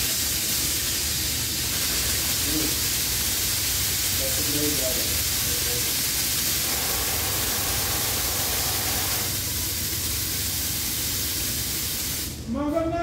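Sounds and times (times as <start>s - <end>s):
espresso machine steam hiss: 0.0s - 12.4s.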